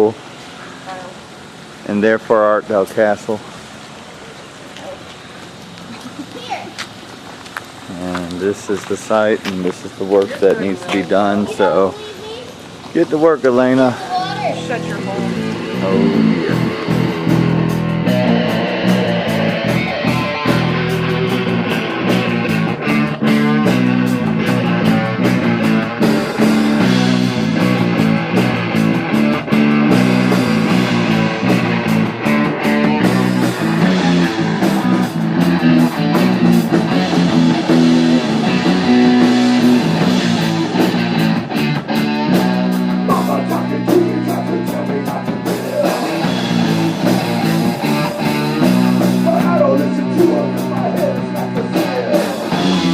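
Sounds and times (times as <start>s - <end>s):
guitar rock music: 7.9s - 12.4s, 13.0s - 52.9s.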